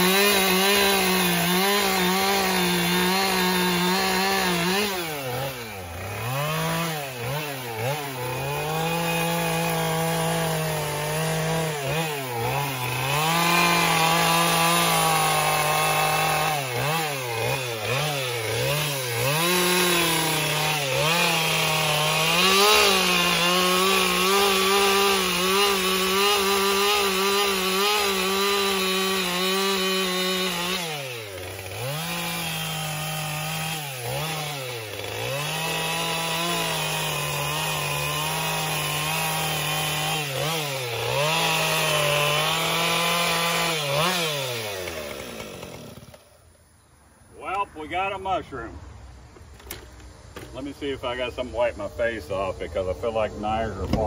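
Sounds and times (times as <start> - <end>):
chainsaw cutting wood: 0.0 - 46.6.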